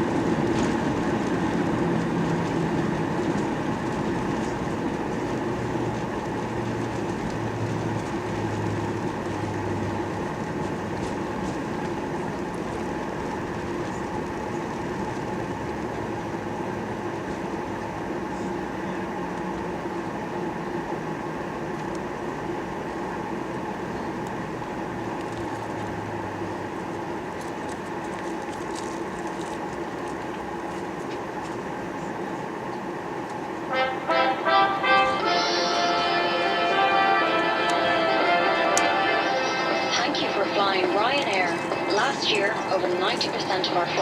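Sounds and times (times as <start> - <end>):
airframe and wheel rumble: 0.0 - 34.1, 34.8 - 44.0
jet engine drone: 0.0 - 44.0.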